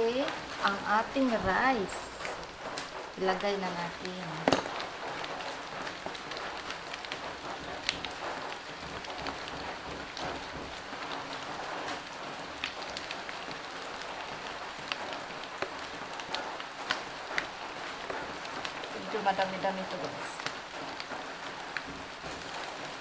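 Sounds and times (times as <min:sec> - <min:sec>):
rice sizzling in a hot pan: 0:00.0 - 0:23.0.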